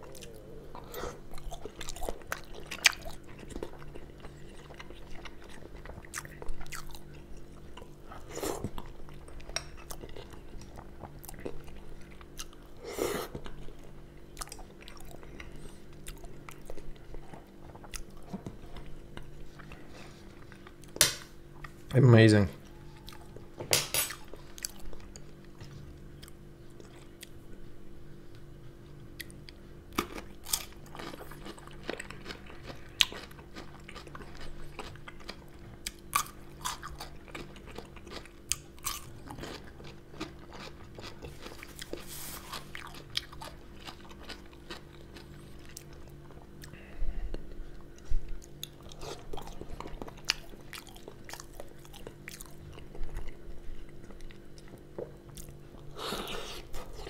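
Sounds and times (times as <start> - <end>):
crunchy chewing: 0.0 - 21.0, 28.3 - 57.0.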